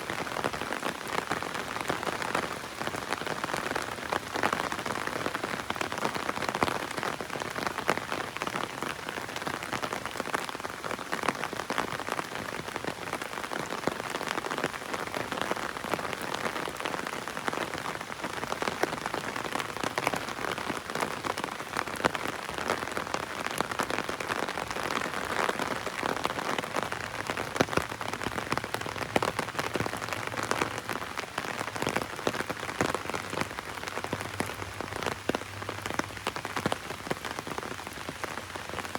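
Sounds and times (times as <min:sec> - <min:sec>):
heavy rain on umbrella: 0:00.0 - 0:38.9.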